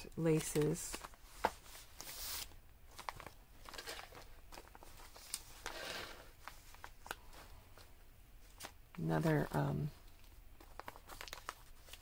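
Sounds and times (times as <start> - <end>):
paper rustling: 0.2 - 9.5, 10.1 - 12.0.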